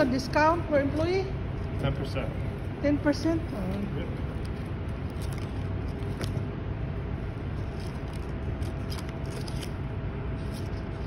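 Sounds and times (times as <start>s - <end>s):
faint steady hum: 0.0s - 11.0s
low background rumble: 0.0s - 11.0s.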